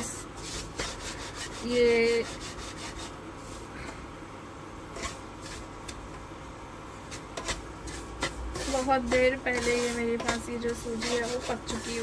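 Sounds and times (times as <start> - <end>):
wooden spatula scraping a wok: 0.0 - 3.8, 4.9 - 6.0, 7.0 - 12.0.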